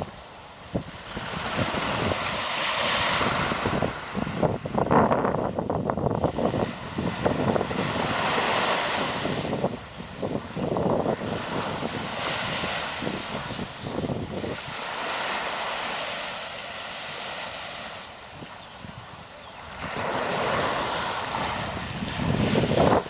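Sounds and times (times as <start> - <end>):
wind rumbling on microphone: 0.0 - 16.2, 17.0 - 23.0
sea waves washing: 0.0 - 23.0.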